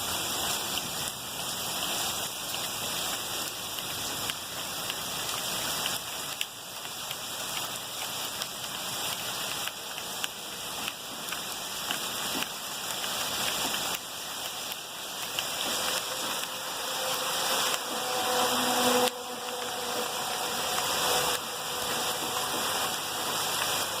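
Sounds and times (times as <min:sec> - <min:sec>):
heavy rain: 0:00.0 - 0:24.0
rushing floodwater: 0:00.0 - 0:24.0.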